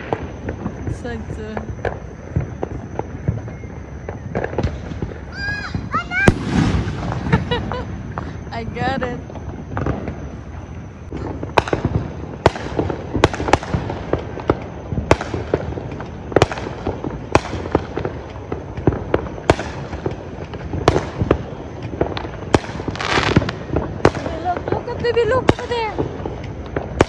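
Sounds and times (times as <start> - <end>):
fireworks bangs and pops: 0.0 - 27.0
low rumble of distant fireworks: 0.0 - 27.0.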